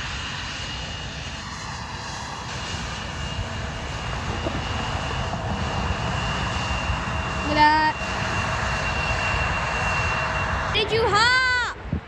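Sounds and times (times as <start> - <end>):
airplane engines whining: 0.0 - 11.9.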